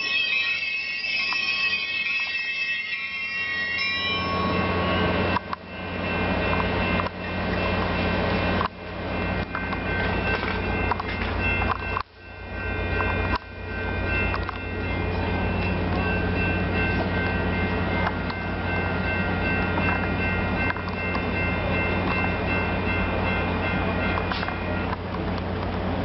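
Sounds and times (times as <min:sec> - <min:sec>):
high steady tones from train: 0:00.0 - 0:26.0
locomotive engine drone: 0:00.0 - 0:26.0
rail and wheel noise: 0:00.0 - 0:26.0.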